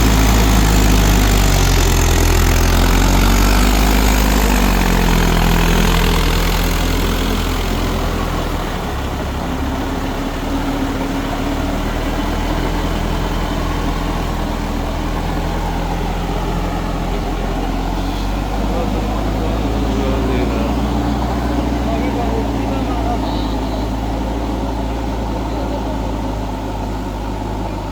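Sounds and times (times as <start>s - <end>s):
diesel tractor engine running: 0.0s - 27.9s.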